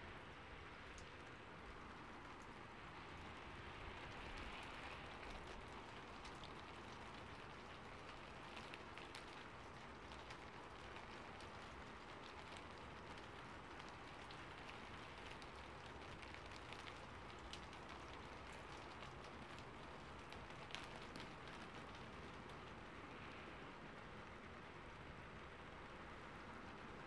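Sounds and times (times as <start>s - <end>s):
faint rain hiss: 0.0s - 27.0s.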